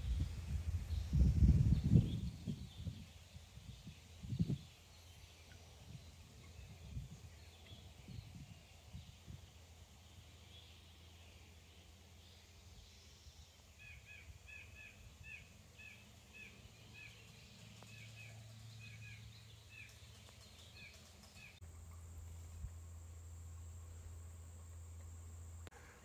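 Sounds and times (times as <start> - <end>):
bird chirping: 0.0 - 21.6.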